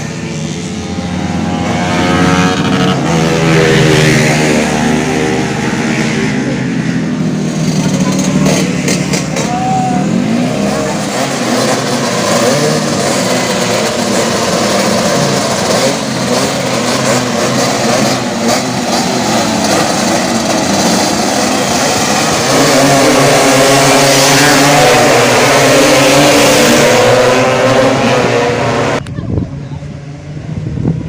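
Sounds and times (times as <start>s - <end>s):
scooter engine revving: 0.0s - 29.1s.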